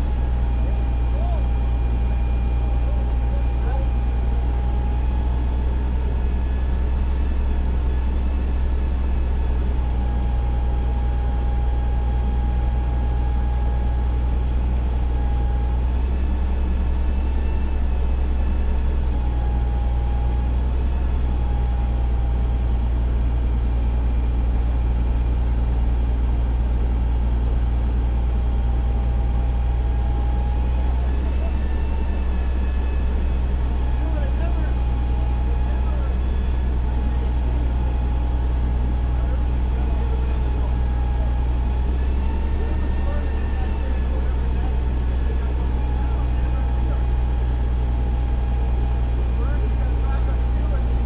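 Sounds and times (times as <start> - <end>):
fire engine running: 0.0 - 51.0.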